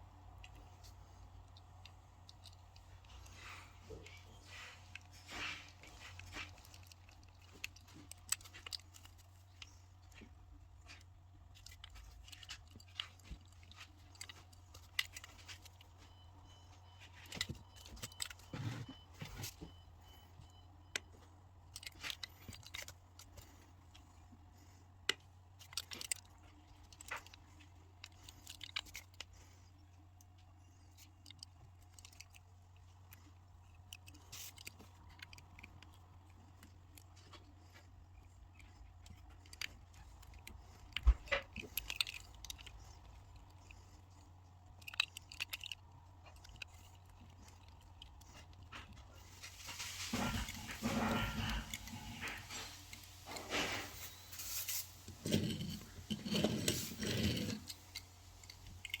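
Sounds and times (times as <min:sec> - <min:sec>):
small parts clicking and scraping: 0:00.0 - 0:59.0
steady low hum: 0:00.0 - 0:59.0.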